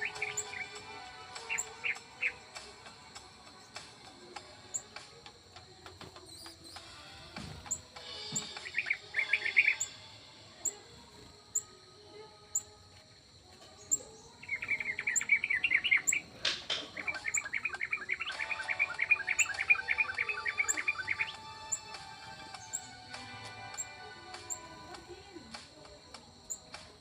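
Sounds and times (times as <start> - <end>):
birds chirping and twittering: 0.0 - 27.0.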